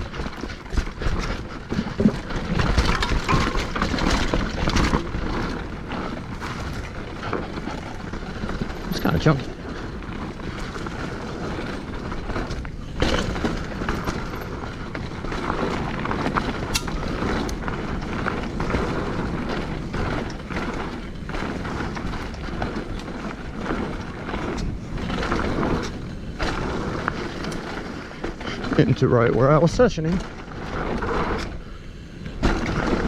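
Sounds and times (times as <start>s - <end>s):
bike frame and chain rattling: 0.0s - 33.0s
bike tyre noise: 0.0s - 33.0s.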